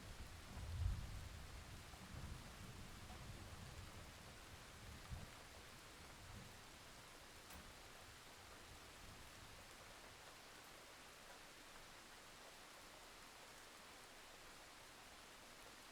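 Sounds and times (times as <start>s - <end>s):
faint rain hiss: 0.0s - 15.9s.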